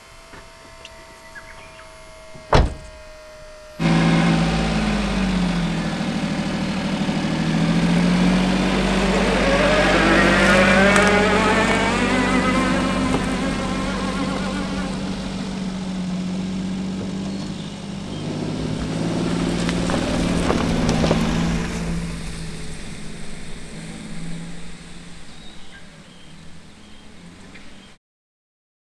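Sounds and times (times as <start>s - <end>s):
small truck engine pulling away: 0.0s - 28.0s.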